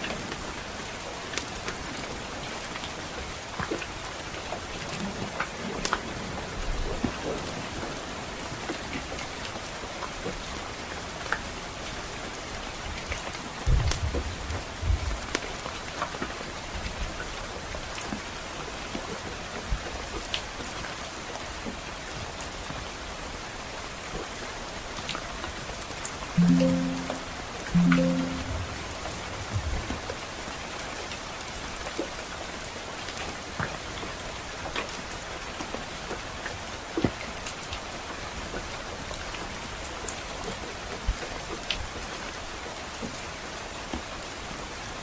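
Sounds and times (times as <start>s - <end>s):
rain falling on a roof: 0.0s - 27.0s, 29.6s - 45.0s.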